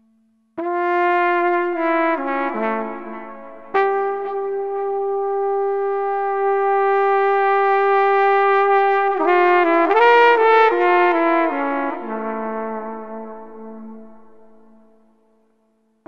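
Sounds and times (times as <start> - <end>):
brass instrument playing: 0.6 - 14.9.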